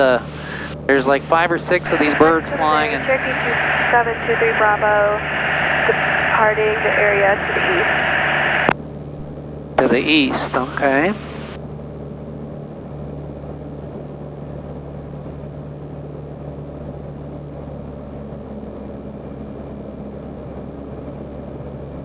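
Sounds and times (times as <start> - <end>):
light aircraft engine drone: 0.0 - 22.0.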